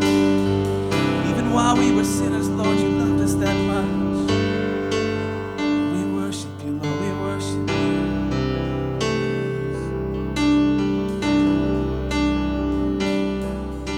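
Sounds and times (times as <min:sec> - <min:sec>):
bass guitar: 0:00.0 - 0:06.0, 0:07.5 - 0:13.9
piano chords: 0:00.0 - 0:13.9.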